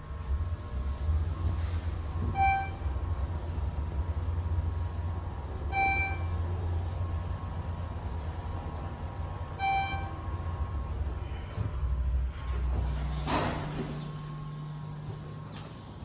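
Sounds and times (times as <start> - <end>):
elevator low rumble: 0.0 - 16.0.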